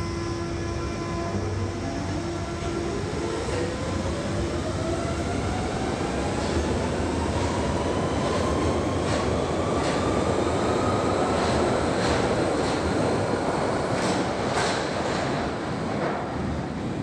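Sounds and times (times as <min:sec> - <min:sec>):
train rumble: 0:01.2 - 0:16.8.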